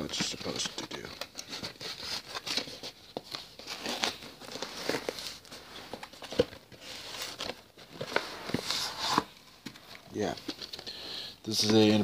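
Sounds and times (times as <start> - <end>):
cardboard package rustling: 0.0 - 10.8.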